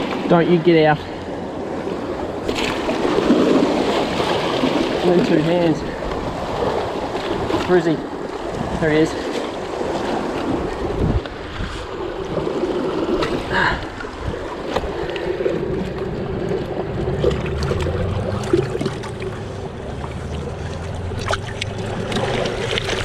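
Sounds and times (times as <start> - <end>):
waves washing against rocks: 0.0 - 23.0
wind buffeting microphone: 1.4 - 23.0.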